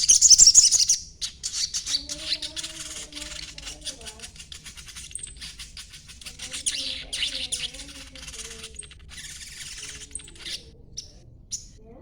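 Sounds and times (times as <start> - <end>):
thin whistled bird notes: 0.0 - 11.8
songbird chirping: 0.0 - 12.0.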